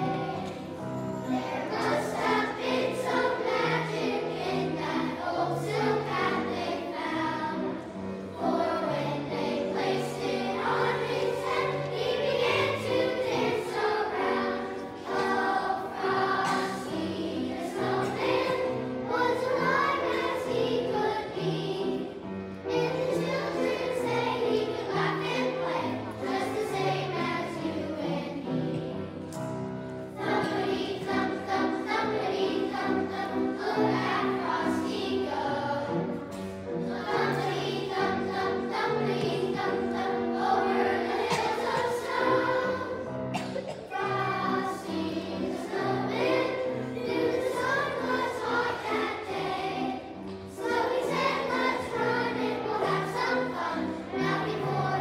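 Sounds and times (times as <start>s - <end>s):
children's choir singing: 0.0s - 55.0s
musical accompaniment: 0.0s - 55.0s.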